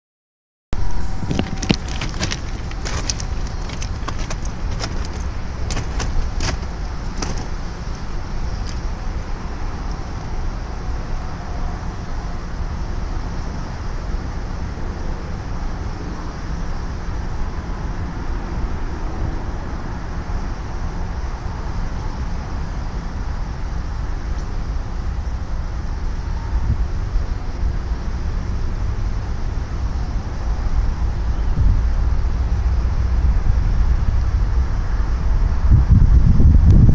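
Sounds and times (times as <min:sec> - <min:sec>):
low rumbling background noise: 0:00.8 - 0:36.9.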